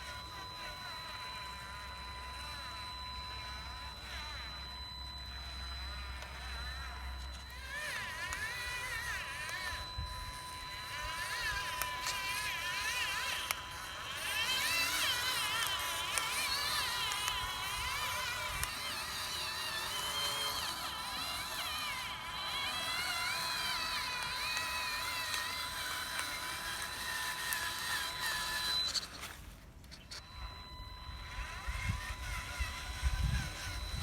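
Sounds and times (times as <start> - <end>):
electric motor and gearbox whine: 0.0 - 34.0.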